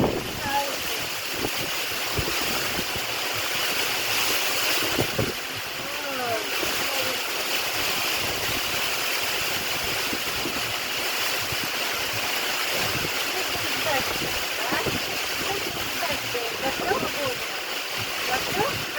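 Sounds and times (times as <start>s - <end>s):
heavy rain: 0.0s - 18.9s
storm wind: 0.0s - 18.9s.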